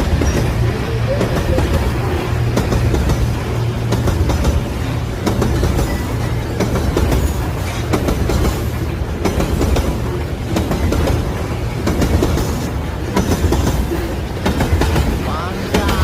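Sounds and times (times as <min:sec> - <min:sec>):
train wagons rumbling past: 0:00.0 - 0:16.0
wheels clacking over rail joints: 0:00.0 - 0:16.0.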